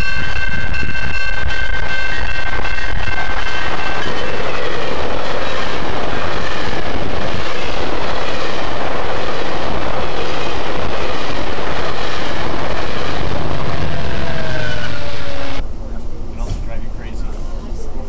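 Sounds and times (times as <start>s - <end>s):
train wheels rushing on rail: 0.0s - 18.0s.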